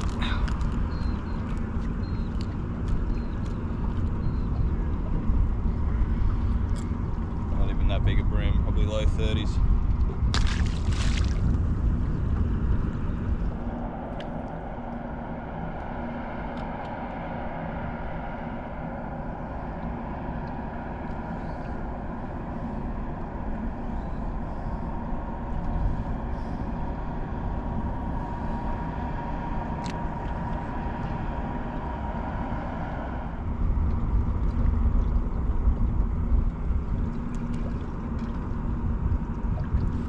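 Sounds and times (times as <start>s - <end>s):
boat motor running: 0.0s - 40.0s
water noise: 0.0s - 40.0s
wind: 0.0s - 40.0s.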